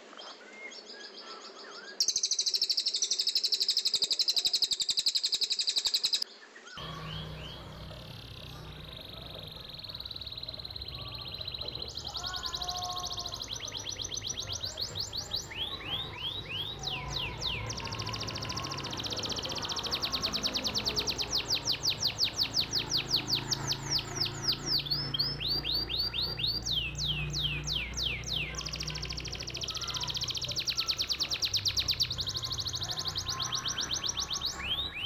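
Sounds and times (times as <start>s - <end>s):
songbird singing whistles and trills: 1.9s - 7.6s, 9.7s - 35.0s.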